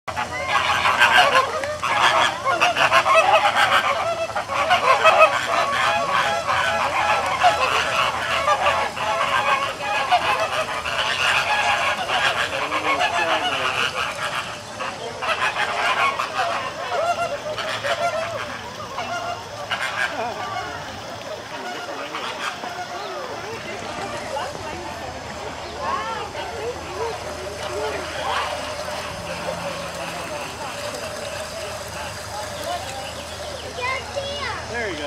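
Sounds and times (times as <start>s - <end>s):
flamingos honking: 0.1s - 35.0s.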